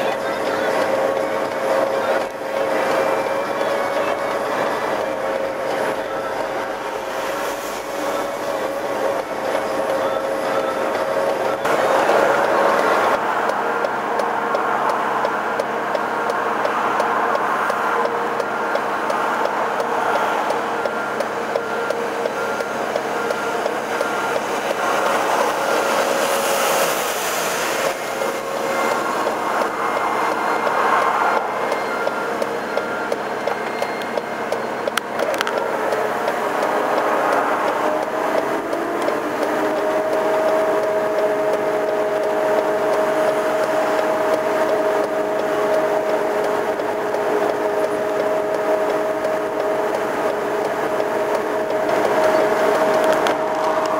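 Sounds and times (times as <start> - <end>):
road sweeper engine: 0.0 - 53.9
traffic: 0.0 - 53.9.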